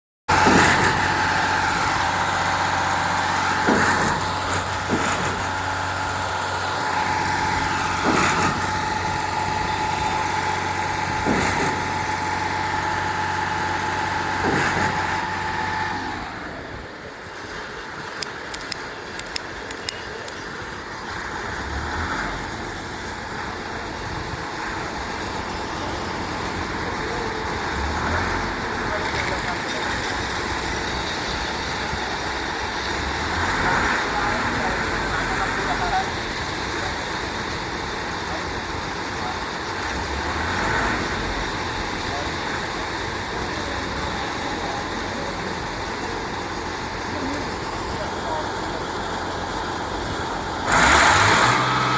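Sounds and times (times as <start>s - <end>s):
pump pistons knocking: 0.3s - 16.5s, 17.6s - 51.9s
concrete pump engine drone: 0.3s - 51.9s.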